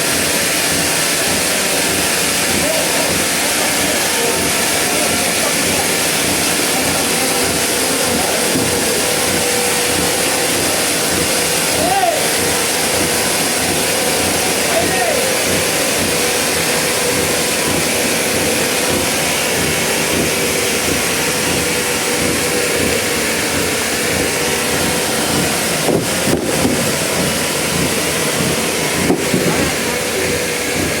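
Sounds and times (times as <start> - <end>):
machinery whine: 0.0 - 31.0
sawmill machinery drone: 0.0 - 31.0.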